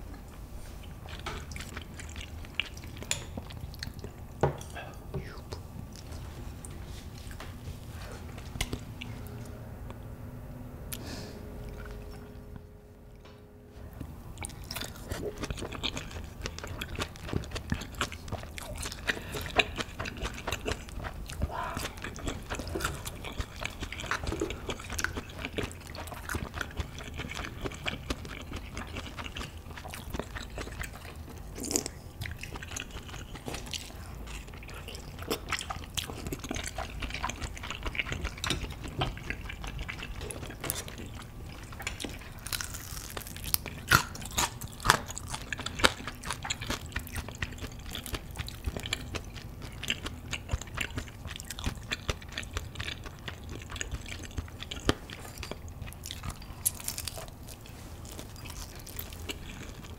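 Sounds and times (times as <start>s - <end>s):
wet chewing sounds: 0.1s - 9.5s, 13.9s - 59.9s.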